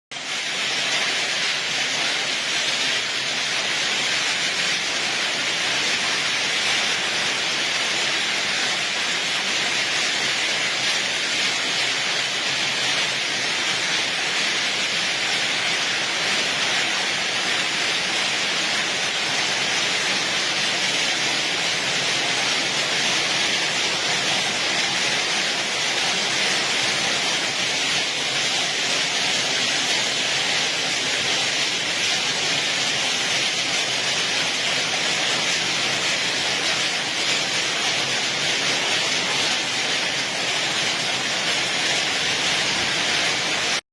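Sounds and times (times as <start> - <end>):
heavy hail and rain: 0.1 - 43.8.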